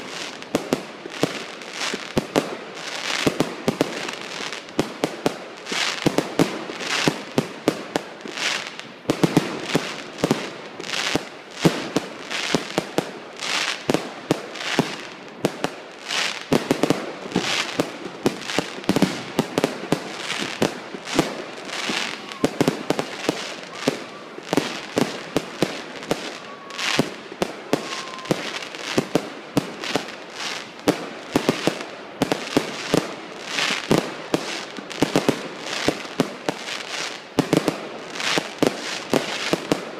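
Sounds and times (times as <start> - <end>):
fireworks bangs and pops: 0.0 - 39.9
hissing crackle of fireworks: 0.0 - 39.9.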